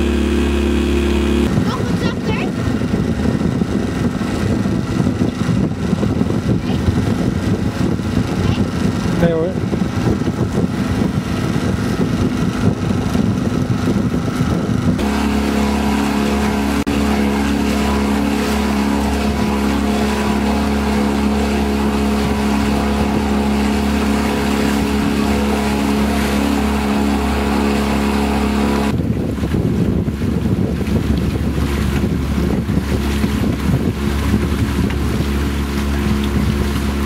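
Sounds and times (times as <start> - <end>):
outboard motor running: 0.0 - 37.0
wind and water rushing: 0.0 - 37.0.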